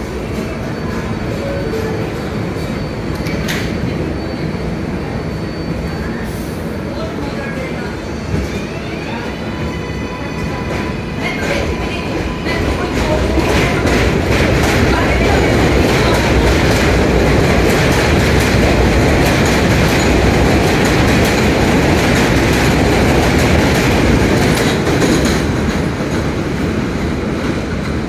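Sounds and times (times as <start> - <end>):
subway train rumbling past: 0.0 - 28.0.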